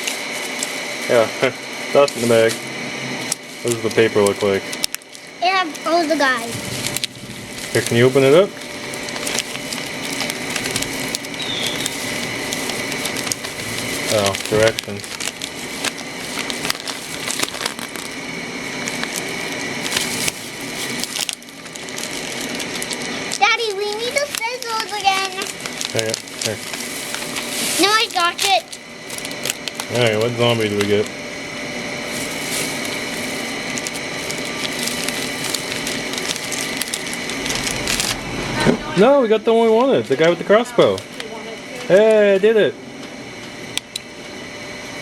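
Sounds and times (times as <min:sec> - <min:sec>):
packaging crinkling and rustling: 0:00.0 - 0:38.4, 0:40.0 - 0:42.2.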